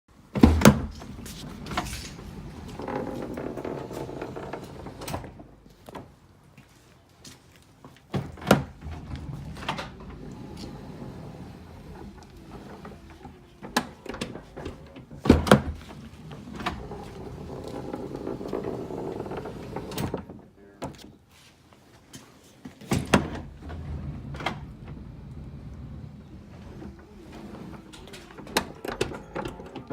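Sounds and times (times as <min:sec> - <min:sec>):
sliding door rattling: 0:00.4 - 0:05.6, 0:08.2 - 0:20.4, 0:22.9 - 0:29.9.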